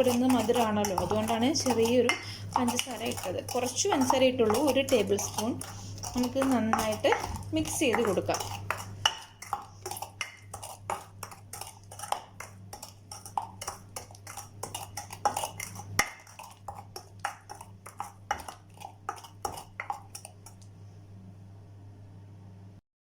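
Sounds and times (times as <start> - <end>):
spoon scraping a bowl: 0.0 - 20.7.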